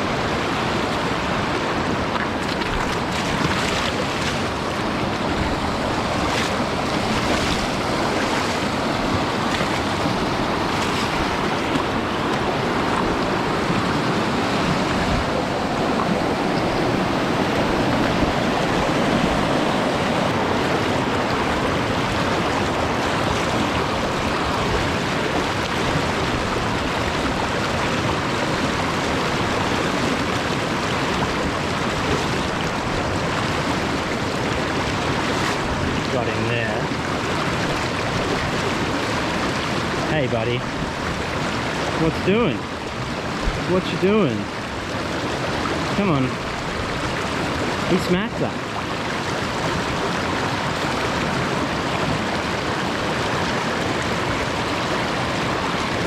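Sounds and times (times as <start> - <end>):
mountain stream rushing: 0.0 - 56.0.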